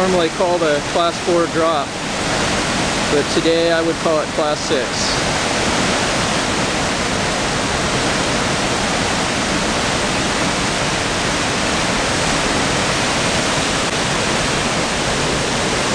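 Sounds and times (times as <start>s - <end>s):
whitewater rushing: 0.0s - 15.9s.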